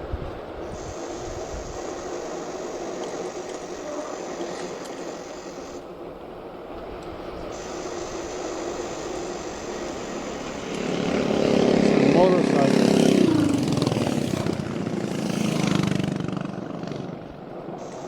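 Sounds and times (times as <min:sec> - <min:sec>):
low road rumble: 0:00.0 - 0:18.0
wind rushing hiss: 0:00.0 - 0:18.0.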